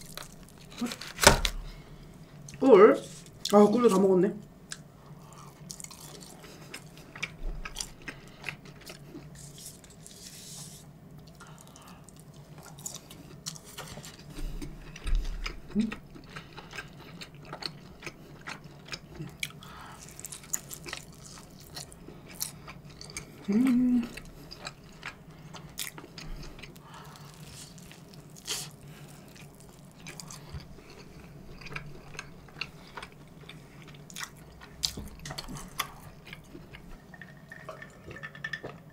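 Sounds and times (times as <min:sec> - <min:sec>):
chewing pizza crust: 0:00.0 - 0:01.3, 0:04.7 - 0:10.4, 0:11.2 - 0:38.8.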